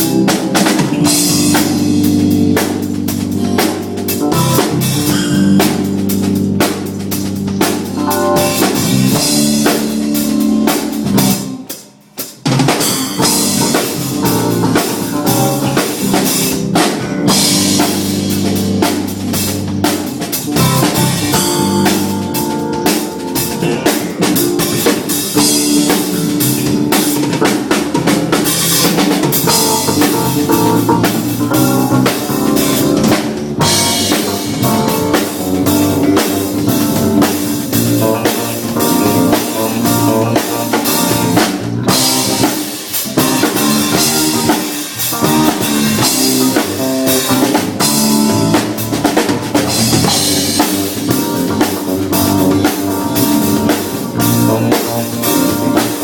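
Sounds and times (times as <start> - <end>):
drum-driven music: 0.0 - 56.0.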